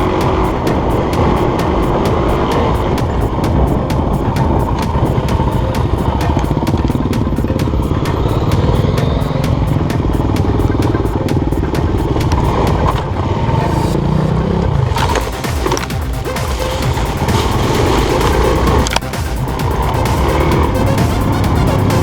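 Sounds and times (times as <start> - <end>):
music with a steady beat: 0.0 - 14.3, 15.0 - 22.0
motorcycle engine running: 0.0 - 22.0.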